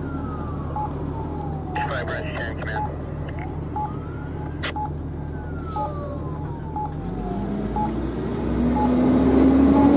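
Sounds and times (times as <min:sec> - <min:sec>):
low engine rumble: 0:00.0 - 0:09.9
siren wailing: 0:00.0 - 0:09.9.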